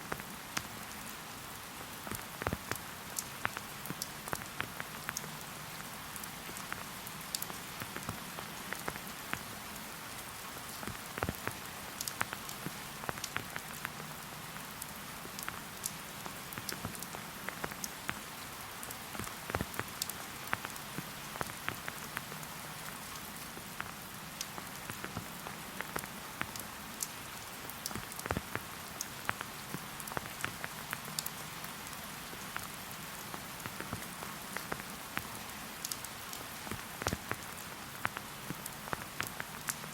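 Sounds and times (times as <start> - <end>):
raindrops ticking: 0.0 - 10.0, 10.7 - 39.9
steady rain hiss: 0.0 - 39.9.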